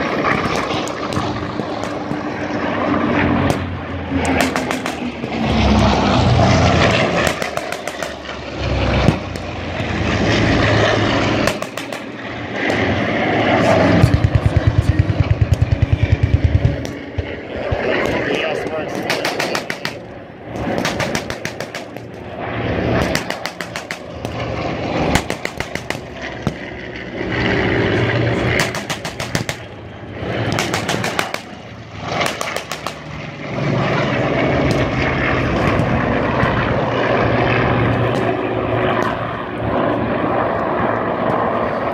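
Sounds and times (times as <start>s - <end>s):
propeller plane engine drone: 0.0s - 41.9s.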